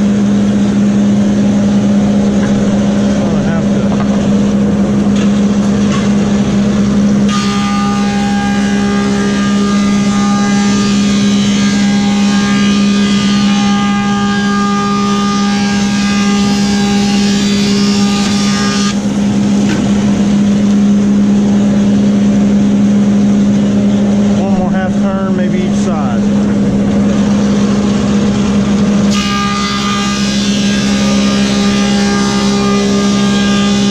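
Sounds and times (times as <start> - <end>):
planer cutting board with whine: 0.0 - 33.9
wood planer running: 0.0 - 33.9.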